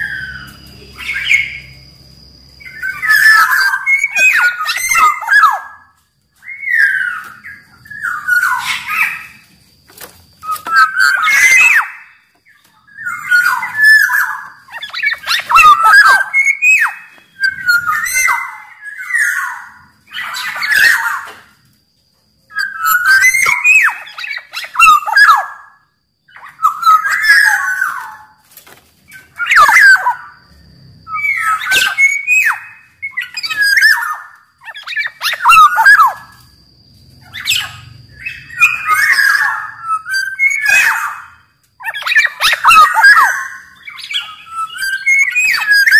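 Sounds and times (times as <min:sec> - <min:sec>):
bird singing whistled phrases: 0:02.6 - 0:09.4, 0:10.4 - 0:21.4, 0:22.5 - 0:25.7, 0:26.3 - 0:28.2, 0:29.2 - 0:30.3, 0:31.1 - 0:36.4, 0:37.3 - 0:45.9.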